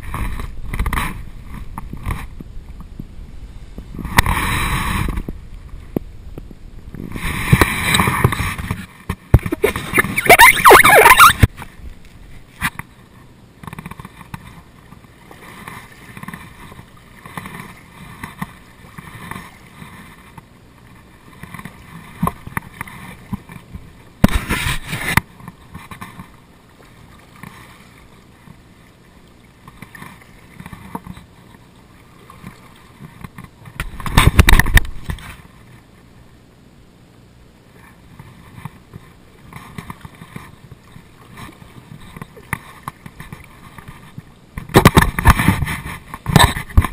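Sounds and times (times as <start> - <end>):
water lapping against kayak hull: 0.0 - 46.9.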